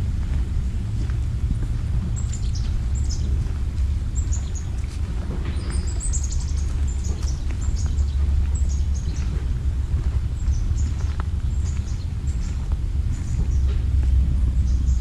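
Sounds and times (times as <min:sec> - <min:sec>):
steady low rumble: 0:00.0 - 0:15.0
small birds chirping: 0:00.2 - 0:15.0.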